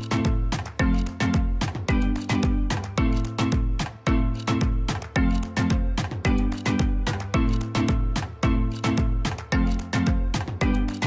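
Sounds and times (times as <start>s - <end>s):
instrumental beat music: 0.0s - 11.0s.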